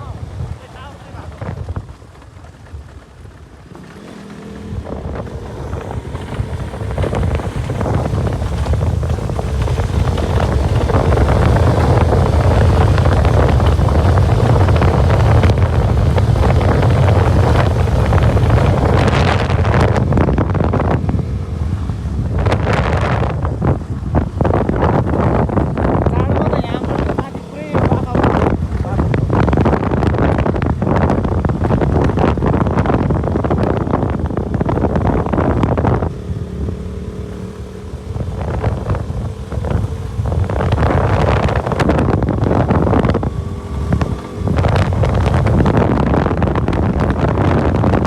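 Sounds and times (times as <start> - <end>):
motorcycle engine running: 0.0 - 48.0
wind buffeting microphone: 0.0 - 48.0.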